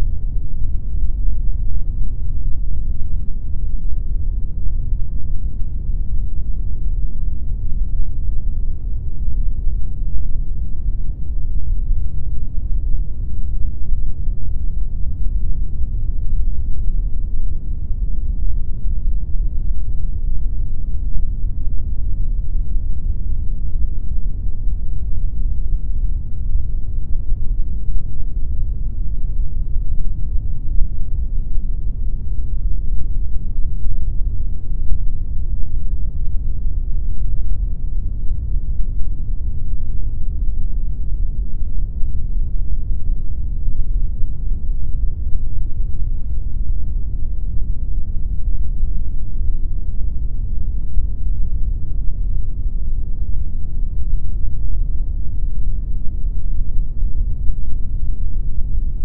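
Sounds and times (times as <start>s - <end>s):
bass-heavy pink noise: 0.0s - 59.0s.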